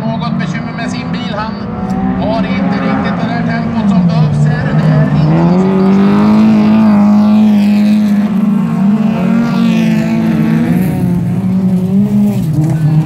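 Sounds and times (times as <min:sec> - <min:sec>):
car engines revving high: 0:00.0 - 0:13.0.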